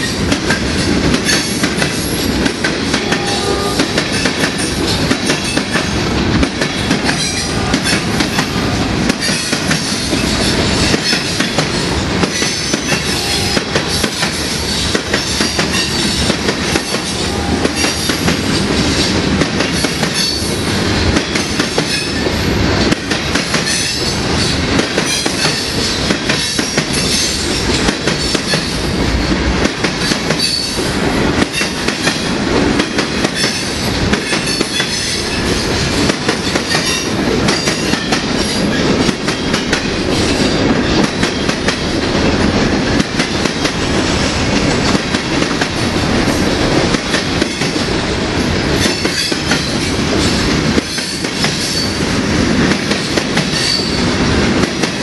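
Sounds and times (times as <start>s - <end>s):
train wheels clattering over rail joints: 0.0s - 55.0s.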